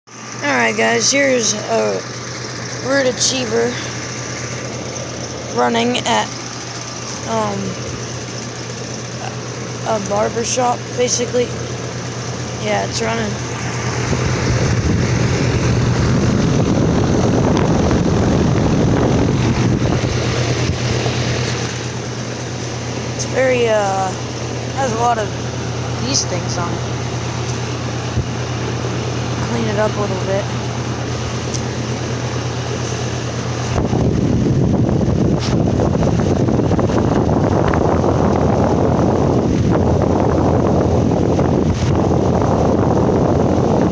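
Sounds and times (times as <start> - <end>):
compressor humming: 0.1 - 43.9
fan air rushing: 0.1 - 43.9.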